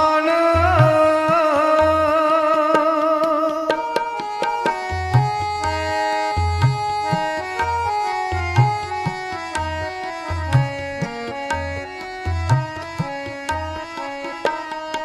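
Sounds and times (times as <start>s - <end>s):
instrumental melody: 0.0s - 15.0s
tabla strokes: 0.6s - 15.0s.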